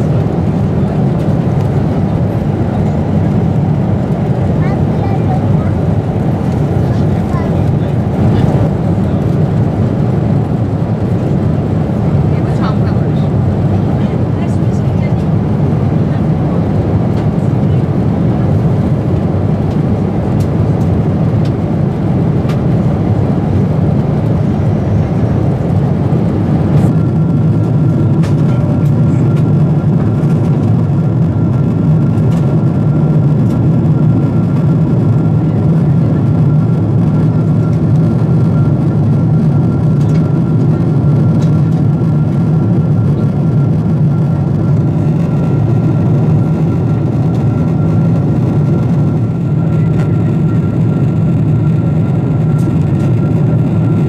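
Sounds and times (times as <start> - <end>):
airflow over fuselage: 0.0 - 54.0
airplane engines roaring: 0.0 - 54.0.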